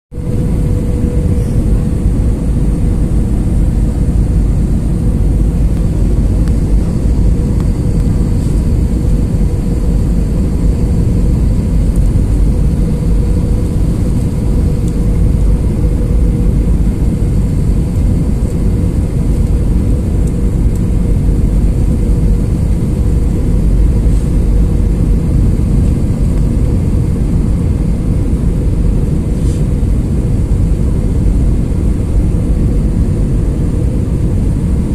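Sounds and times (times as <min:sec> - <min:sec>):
airflow rumble: 0:00.1 - 0:34.9
jet engine drone: 0:00.1 - 0:34.9
steady mid-pitched hum: 0:00.1 - 0:34.9.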